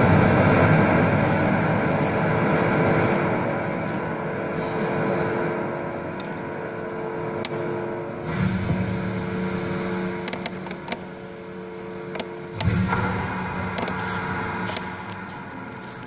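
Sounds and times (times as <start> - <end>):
deep low swell: 0.0 - 16.0
electronic drone music: 0.0 - 16.0.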